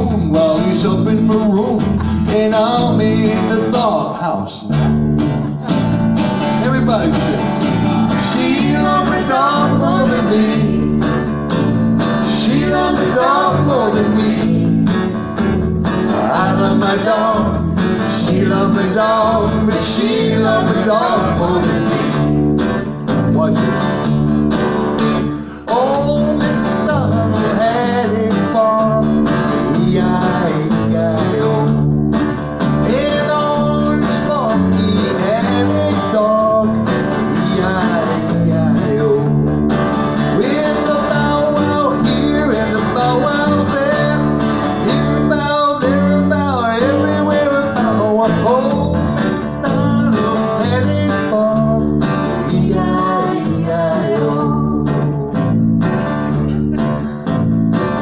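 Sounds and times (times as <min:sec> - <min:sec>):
fretless electric bass melody: 0:00.0 - 0:04.0, 0:04.7 - 0:58.0
acoustic guitar strumming: 0:00.0 - 0:58.0.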